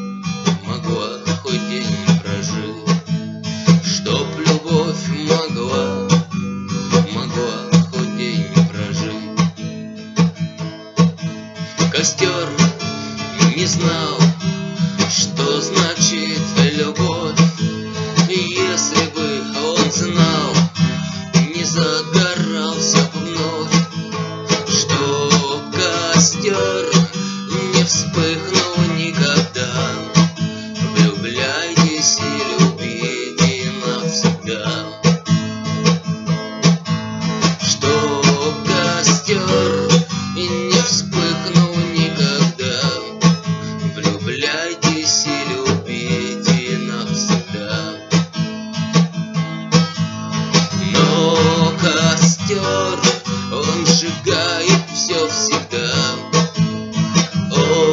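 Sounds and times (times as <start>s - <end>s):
acoustic guitar strumming: 0.0s - 57.9s.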